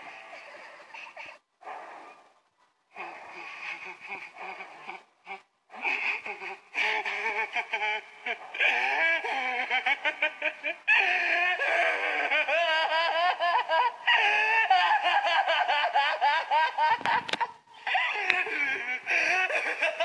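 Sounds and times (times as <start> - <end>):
person giggling and cackling: 3.4 - 20.0.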